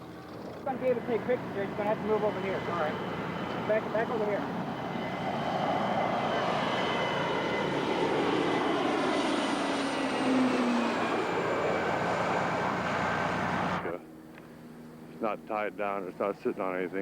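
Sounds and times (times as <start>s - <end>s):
aircraft engine passing: 0.0s - 17.0s.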